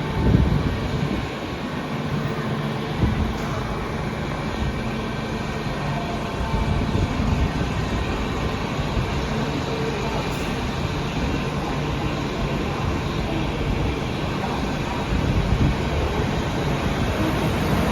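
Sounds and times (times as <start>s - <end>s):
people mover hum and rumble: 0.0s - 17.9s.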